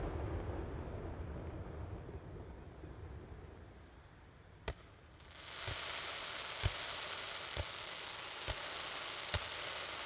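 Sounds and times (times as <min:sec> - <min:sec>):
fireworks rumble and hiss: 0:00.0 - 0:10.0.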